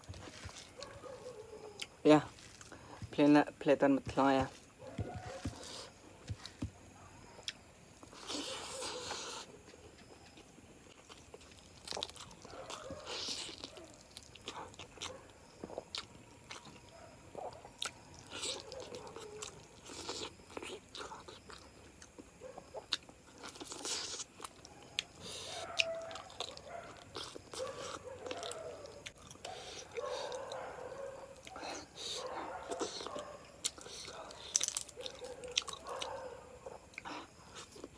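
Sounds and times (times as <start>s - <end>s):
person chewing food: 0.0s - 3.2s, 4.1s - 37.9s.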